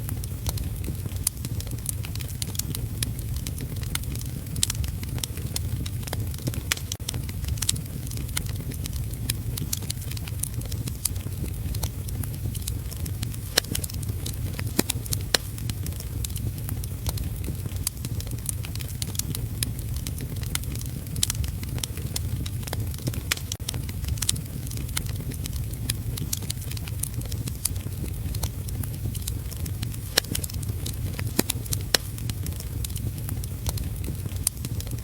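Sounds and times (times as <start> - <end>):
steady low rumble: 0.0 - 35.0
wood fire crackling and popping: 0.0 - 35.0.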